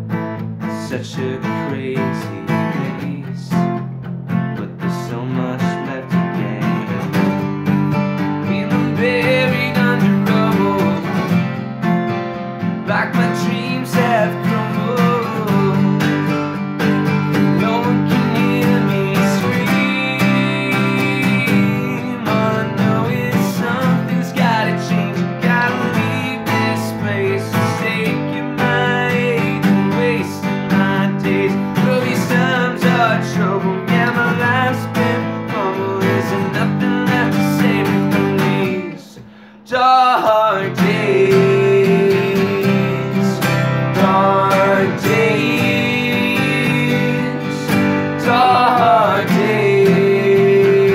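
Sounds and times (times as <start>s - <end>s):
acoustic guitars strumming: 0.0s - 50.9s
person singing: 0.7s - 3.8s, 4.6s - 7.4s, 8.4s - 11.6s, 12.8s - 50.9s.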